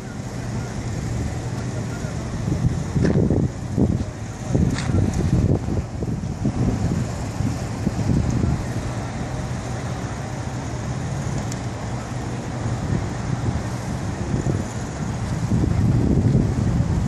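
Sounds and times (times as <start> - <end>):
wind buffeting microphone: 0.0 - 11.8, 12.4 - 17.0
low rumble of street traffic: 0.0 - 17.0.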